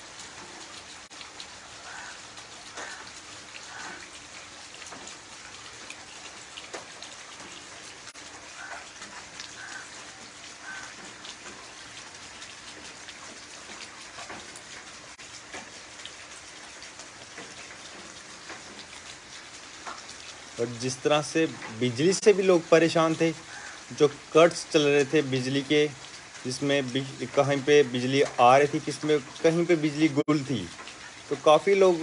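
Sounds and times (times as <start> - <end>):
heavy rain on concrete: 0.0 - 32.0
raindrop splashes: 0.0 - 32.0.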